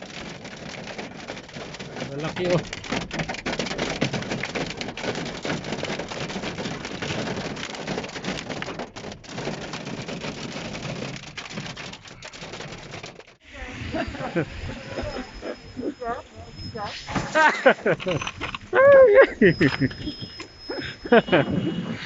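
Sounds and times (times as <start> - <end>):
hailstones pelting the ground: 0.0 - 21.8.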